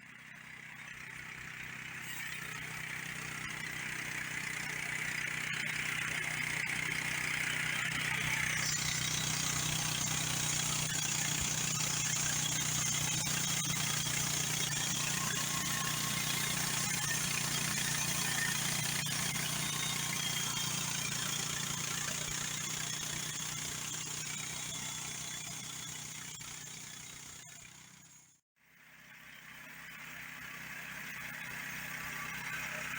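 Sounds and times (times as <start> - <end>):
gasoline engine running: 0.0 - 28.3.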